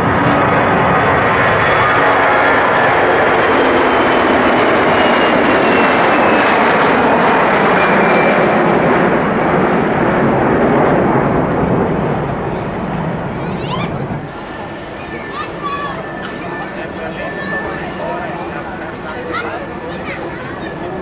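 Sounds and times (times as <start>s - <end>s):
jet engine whine: 0.0s - 21.0s
jet engines roaring at take-off: 0.0s - 21.0s.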